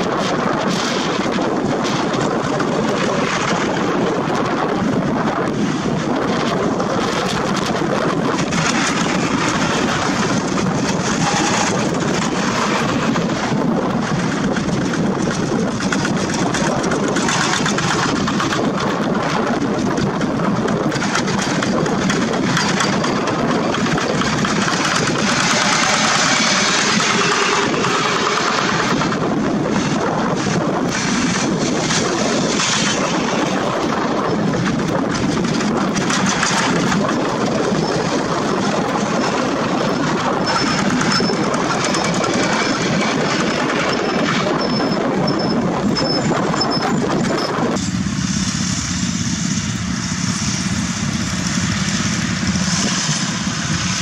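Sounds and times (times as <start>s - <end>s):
diesel engines clattering: 0.0s - 54.0s.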